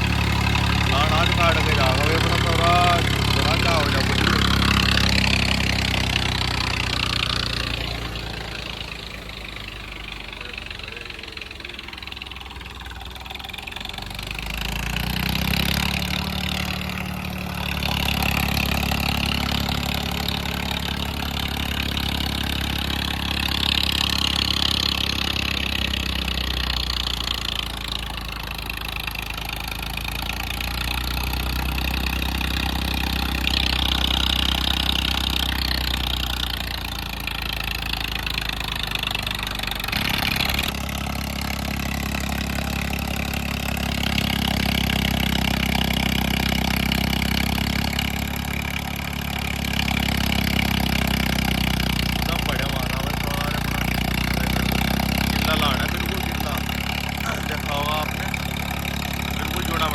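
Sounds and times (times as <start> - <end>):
diesel tractor engine under load: 0.0 - 59.9.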